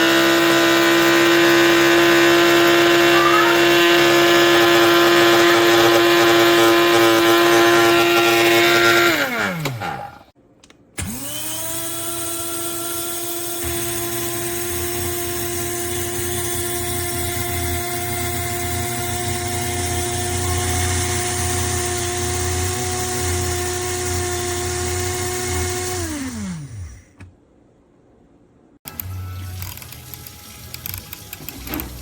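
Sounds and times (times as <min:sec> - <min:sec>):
coffee grinder motor whining: 0:00.0 - 0:10.3, 0:11.0 - 0:27.1, 0:28.9 - 0:32.0.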